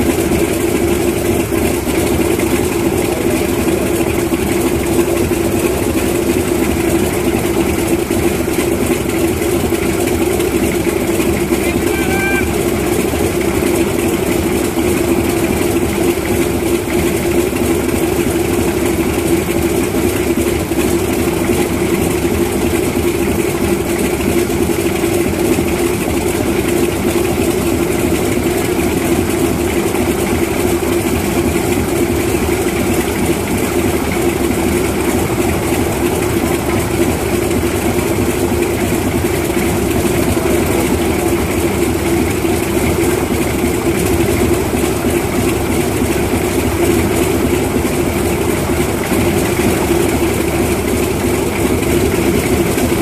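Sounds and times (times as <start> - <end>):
radial aircraft engine running: 0.0 - 53.0.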